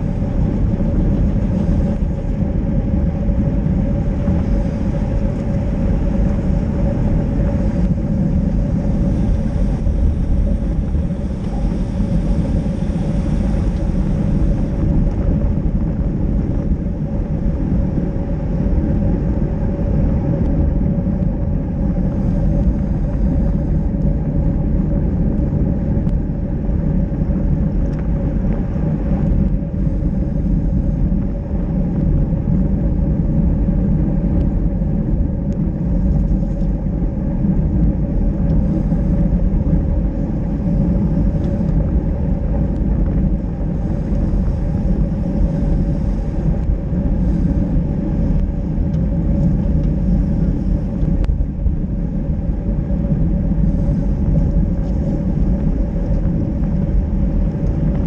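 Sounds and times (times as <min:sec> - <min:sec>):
bicycle tyres rolling on wet asphalt: 0:00.0 - 0:58.0
wind buffeting microphone: 0:00.0 - 0:58.0.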